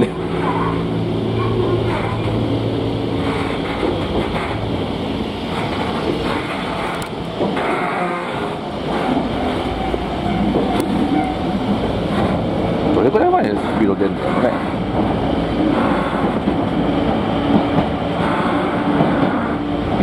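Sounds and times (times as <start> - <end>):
electric train interior rumble: 0.0 - 20.0.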